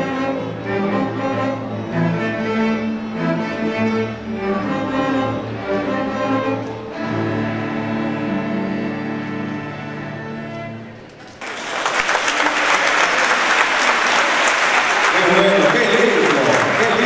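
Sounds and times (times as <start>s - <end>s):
string orchestra playing: 0.0s - 11.3s, 11.9s - 17.0s.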